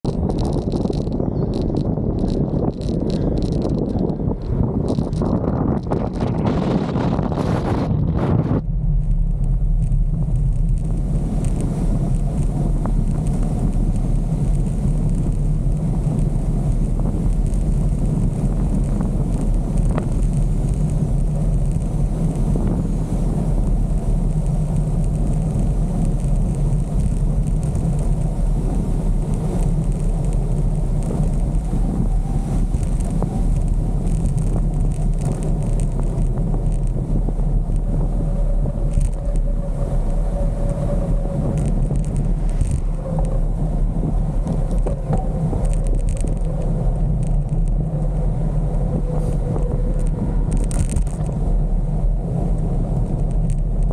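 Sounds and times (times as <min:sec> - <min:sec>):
wind buffeting microphone: 0:00.0 - 0:53.9
tyres rolling on tarmac: 0:08.8 - 0:53.9.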